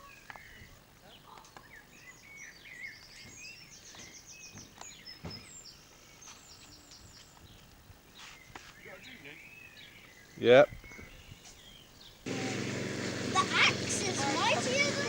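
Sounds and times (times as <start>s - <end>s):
small birds singing: 0.0s - 15.0s.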